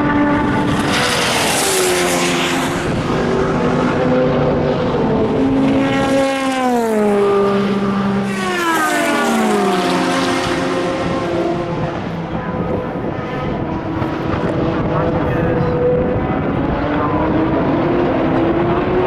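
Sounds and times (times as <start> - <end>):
race car engines: 0.0 - 19.0
race car passing by: 0.0 - 19.0.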